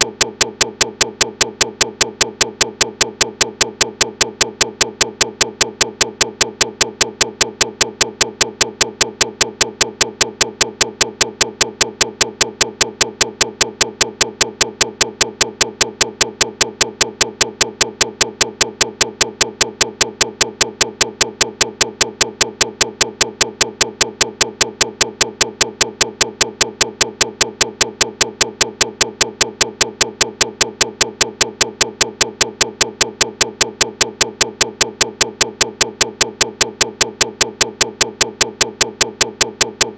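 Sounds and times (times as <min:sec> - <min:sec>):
steady clicking: 0:00.0 - 0:39.9.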